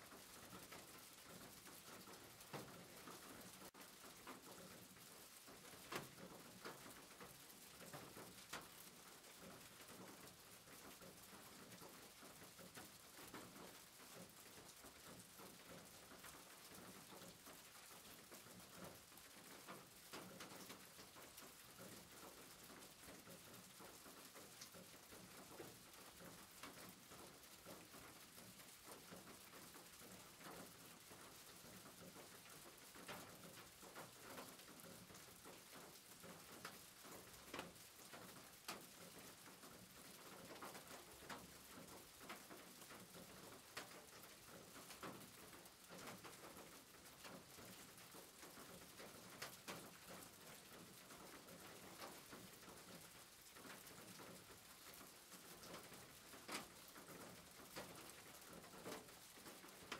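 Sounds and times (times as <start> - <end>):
rain falling on a roof: 0.0 - 59.9.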